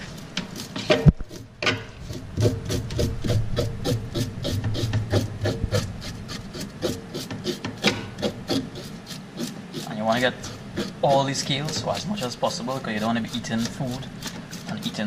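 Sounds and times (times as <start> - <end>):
fork scraping fish scales: 0.0 - 15.0.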